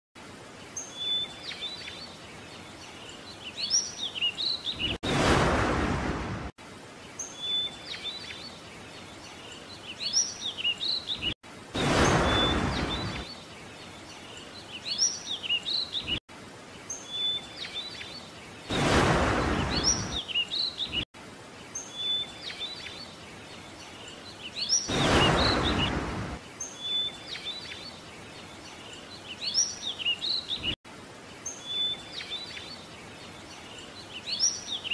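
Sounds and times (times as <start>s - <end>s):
birds chirping: 0.7s - 5.9s, 7.0s - 21.0s, 21.6s - 30.8s.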